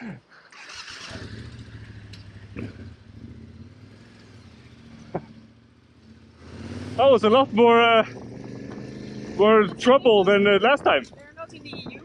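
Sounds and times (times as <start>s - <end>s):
motorcycle engine starting and idling: 0.4s - 12.0s.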